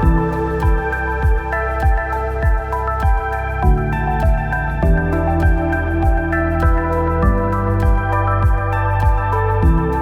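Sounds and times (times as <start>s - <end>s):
low repeated thumps: 0.0s - 10.0s.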